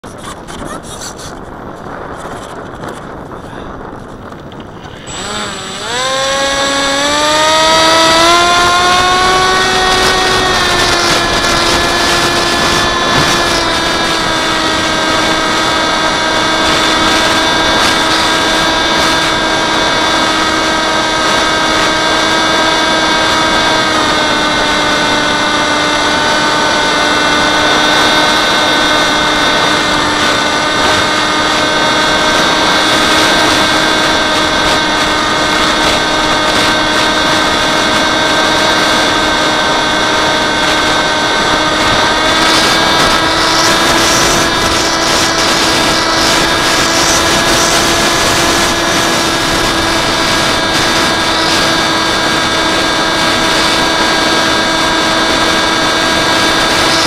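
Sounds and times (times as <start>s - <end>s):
drone motors whining: 0.0s - 57.0s
strong wind: 0.0s - 57.0s.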